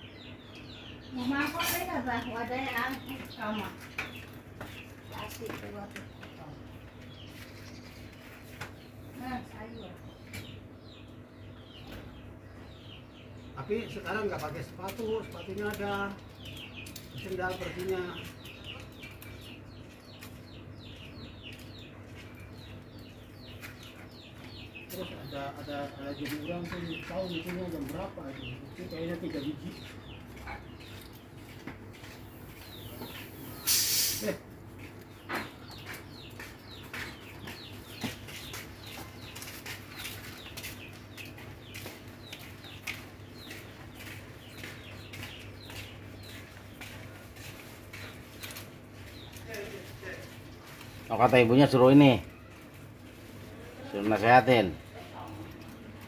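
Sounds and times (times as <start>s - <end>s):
small bird chirping: 0.0s - 56.0s.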